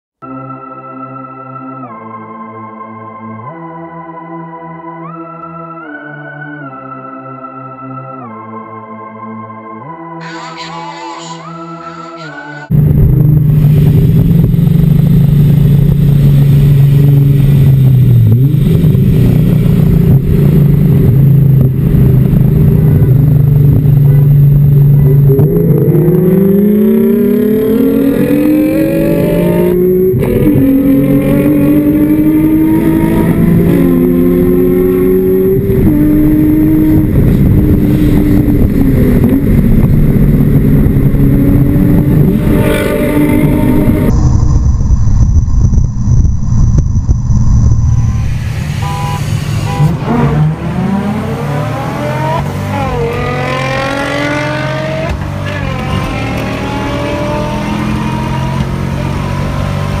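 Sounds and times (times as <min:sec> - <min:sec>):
car engine revving: 0:10.2 - 1:00.0.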